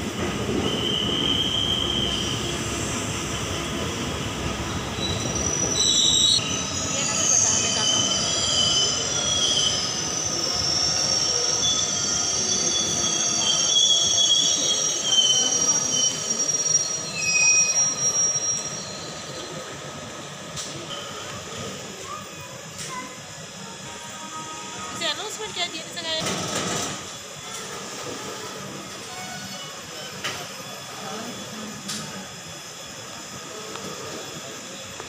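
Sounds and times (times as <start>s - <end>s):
train rumbling: 0.0s - 35.0s
train wheels squealing on rails: 0.0s - 35.0s.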